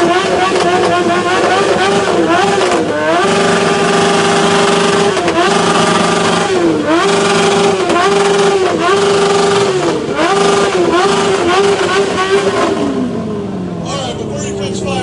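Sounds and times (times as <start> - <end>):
engine revving at rev limiter: 0.0 - 15.0.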